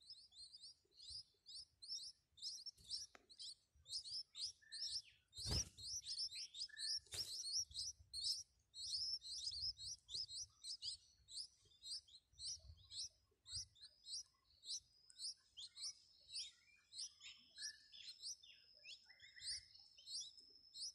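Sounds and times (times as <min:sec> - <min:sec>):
nestlings chirping: 0:00.0 - 0:20.9.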